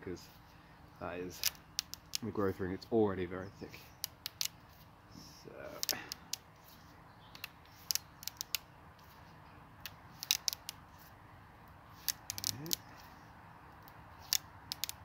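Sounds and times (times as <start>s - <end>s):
wood rod crackling: 1.1s - 3.0s, 3.6s - 13.2s, 13.8s - 15.0s.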